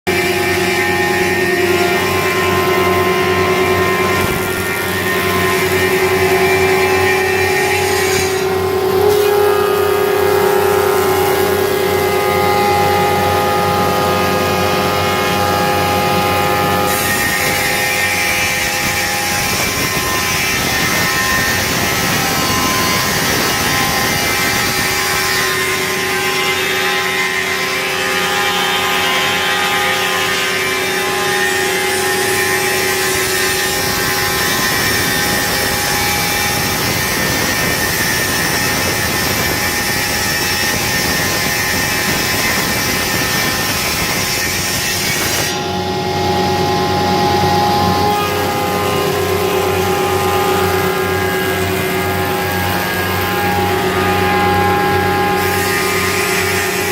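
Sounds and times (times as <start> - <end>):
woodworking machine whine and hum: 0.1 - 56.9.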